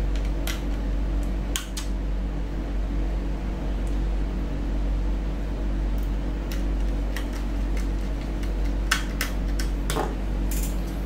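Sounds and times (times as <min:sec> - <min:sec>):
fan whirring: 0:00.0 - 0:11.0
low electrical hum: 0:00.0 - 0:11.0.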